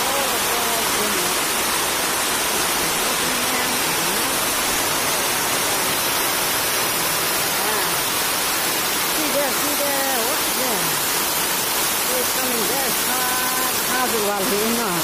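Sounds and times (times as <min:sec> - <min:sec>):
heavy rain on metal roof: 0:00.0 - 0:15.0.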